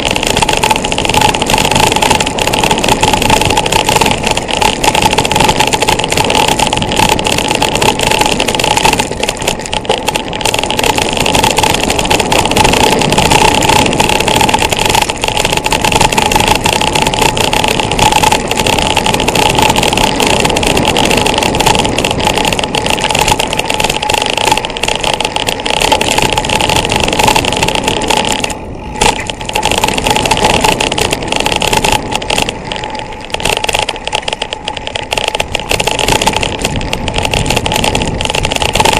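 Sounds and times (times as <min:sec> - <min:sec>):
bike rattling over bumps: 0:00.0 - 0:38.9
tyres rolling on gravel: 0:00.0 - 0:38.9
wind rushing over microphone: 0:00.0 - 0:38.9.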